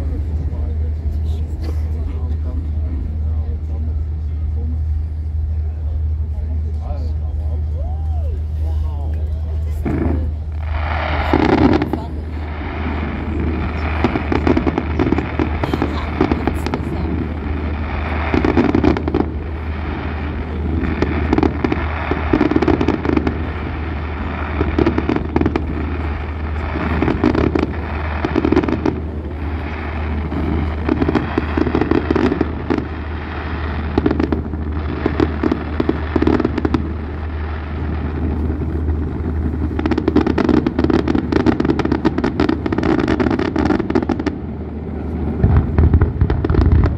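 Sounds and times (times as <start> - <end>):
fireworks crackling and popping: 0.0 - 46.9
steady low hum: 0.0 - 46.9.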